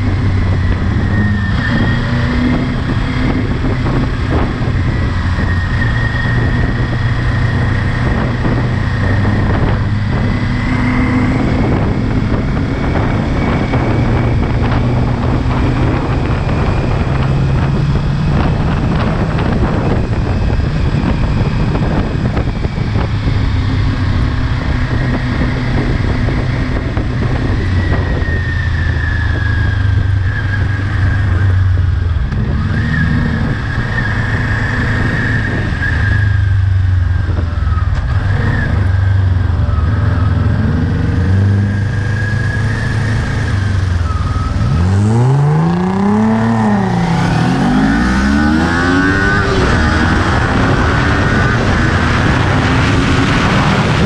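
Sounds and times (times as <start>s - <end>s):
motorcycle engine revving: 0.0s - 54.0s
wind buffeting: 0.0s - 54.0s.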